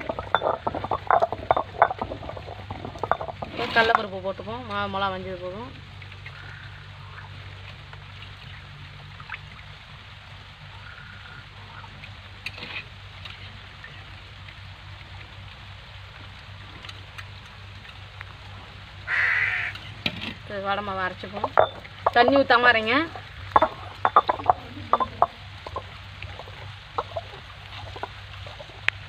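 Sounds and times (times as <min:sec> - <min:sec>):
water trickling and dripping: 0:00.0 - 0:29.0.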